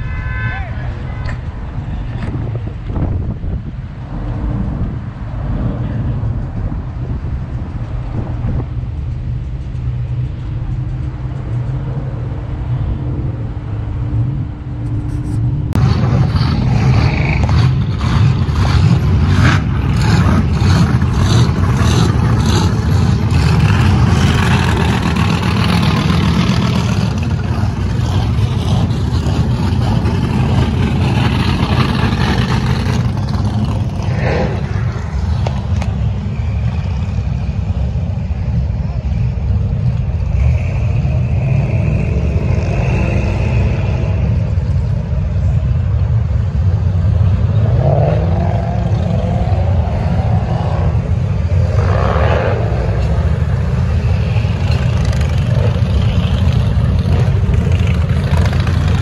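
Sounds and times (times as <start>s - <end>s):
car engines idling: 0.0s - 59.0s
car engines revving and driving past: 0.0s - 59.0s.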